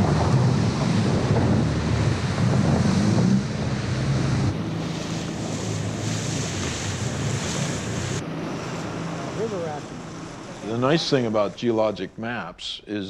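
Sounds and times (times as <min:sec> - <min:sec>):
wind buffeting microphone: 0:00.0 - 0:11.6
river rapid rushing water: 0:00.0 - 0:12.0.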